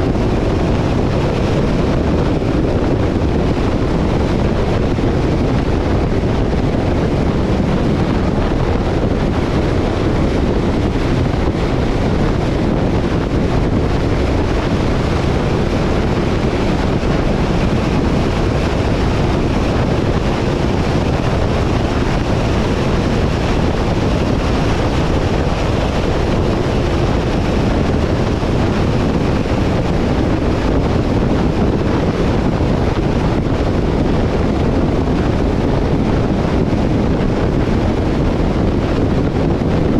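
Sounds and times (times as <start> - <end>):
vehicle low rumble: 0.0 - 39.9
wind buffeting microphone: 0.0 - 39.9.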